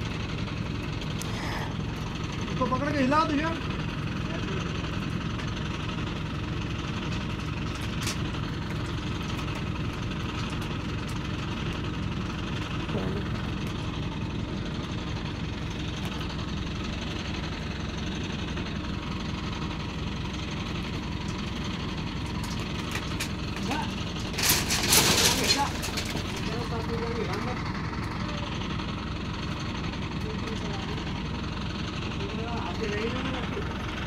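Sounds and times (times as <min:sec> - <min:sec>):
machine engine idling: 0:00.0 - 0:34.0.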